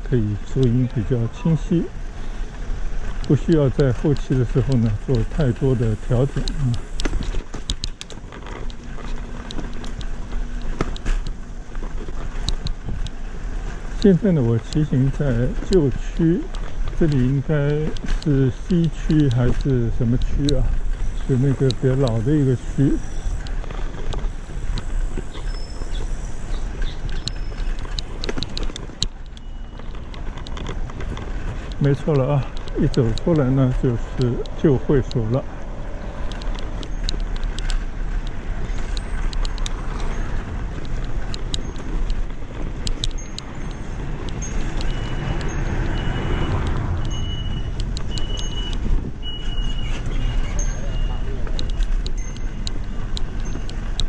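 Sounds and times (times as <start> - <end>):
bicycle road noise: 0.0 - 54.0
wind buffeting microphone: 0.0 - 54.0
light ticks: 3.0 - 54.0.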